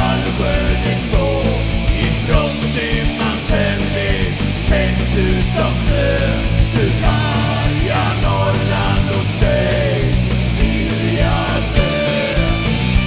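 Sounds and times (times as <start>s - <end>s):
heavy rock music: 0.0s - 13.0s.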